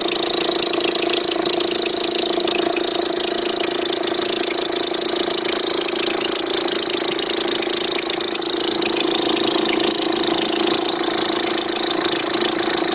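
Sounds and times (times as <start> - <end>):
car engine idling: 1.2 - 12.9.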